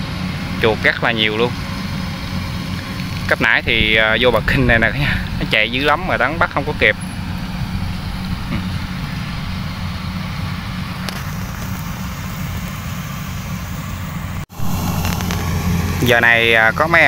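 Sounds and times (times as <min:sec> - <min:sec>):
combine harvester engines droning: 0:00.0 - 0:17.0.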